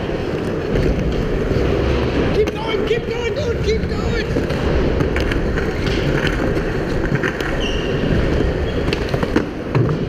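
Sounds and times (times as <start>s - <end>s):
skateboard clicks and knocks: 0.0s - 10.0s
skateboard wheels rolling on concrete: 0.0s - 10.0s.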